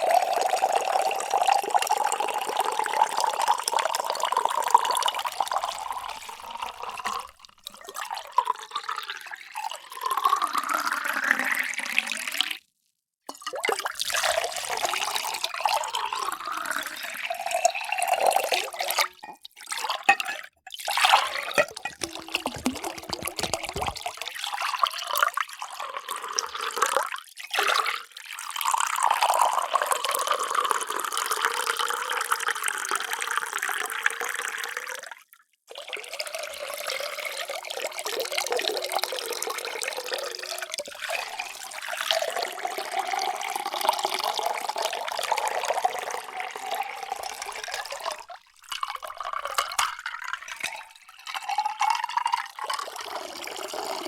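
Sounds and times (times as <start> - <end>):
water pouring into containers: 0.0 - 12.7, 13.3 - 54.0.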